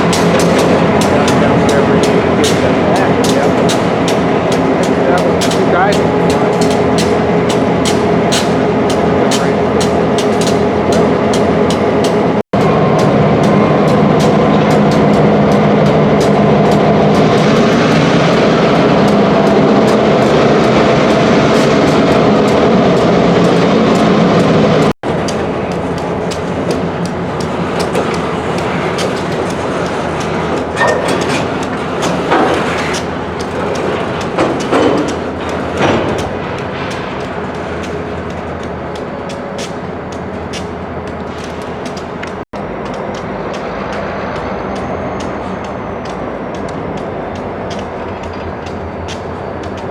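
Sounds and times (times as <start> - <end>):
diesel locomotive drone: 0.0 - 49.9
wheels clicking over rail joints: 0.0 - 49.9.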